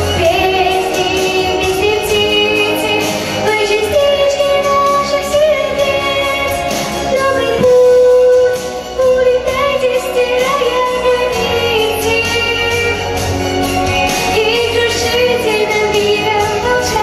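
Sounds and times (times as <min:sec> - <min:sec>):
girl singing pop song: 0:00.0 - 0:17.0
instrumental accompaniment: 0:00.0 - 0:17.0.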